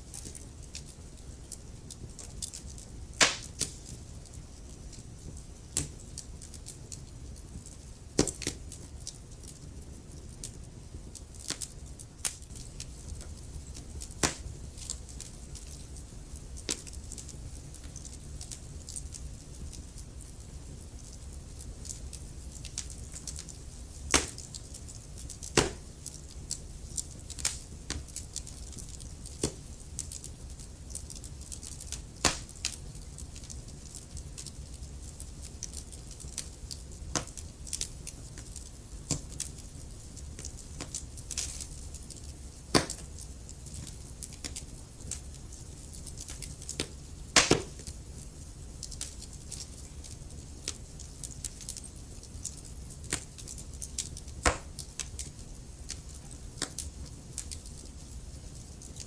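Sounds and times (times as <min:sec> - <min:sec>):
low rumble of flame: 0:00.0 - 0:59.0
wood fire crackling: 0:00.0 - 0:59.0.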